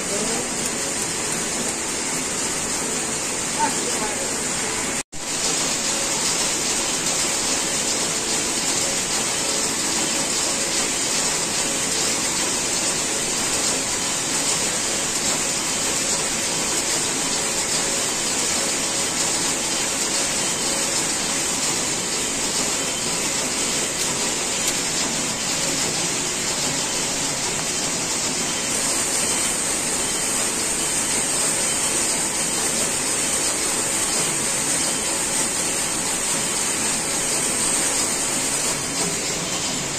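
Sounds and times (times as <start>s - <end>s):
knitting machinery whirring: 0.0s - 39.9s.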